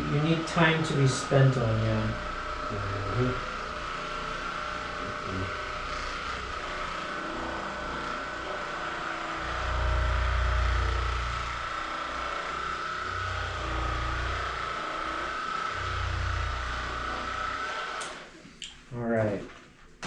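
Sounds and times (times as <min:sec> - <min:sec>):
motor hum with high whine: 0:00.0 - 0:20.0.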